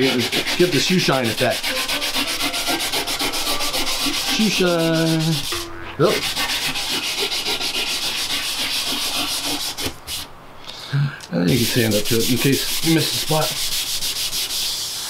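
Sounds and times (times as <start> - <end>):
sandpaper rubbing on wood: 0.0 - 5.5, 6.1 - 10.3, 11.5 - 15.0.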